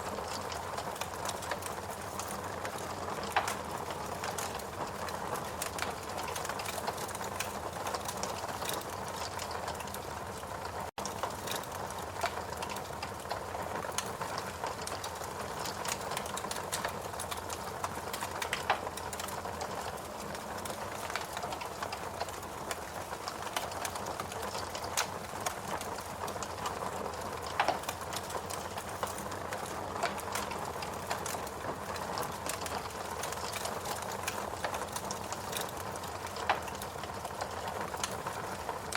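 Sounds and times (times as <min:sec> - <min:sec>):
fireplace crackling: 0:00.0 - 0:38.9.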